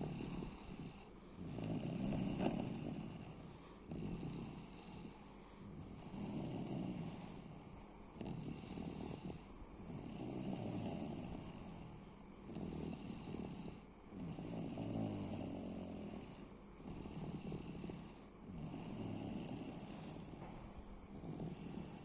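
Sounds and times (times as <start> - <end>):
woman snoring: 0.0 - 22.0.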